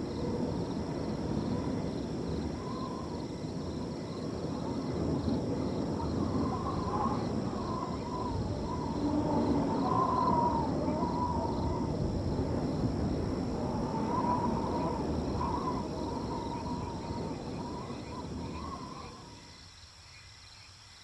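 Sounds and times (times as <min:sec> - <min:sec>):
crickets chirping: 0:00.0 - 0:21.0
wind blowing through a field: 0:00.0 - 0:21.0.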